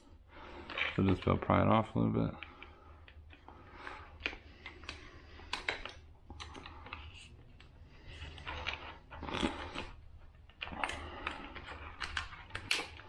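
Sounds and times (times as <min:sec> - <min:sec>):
small metallic clicks and scrapes: 0:02.2 - 0:13.0.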